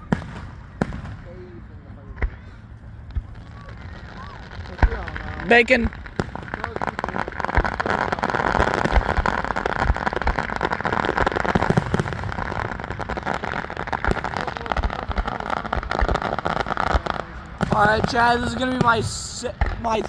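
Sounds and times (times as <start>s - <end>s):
fireworks booming: 0.0s - 20.0s
fireworks crackling: 0.0s - 20.0s.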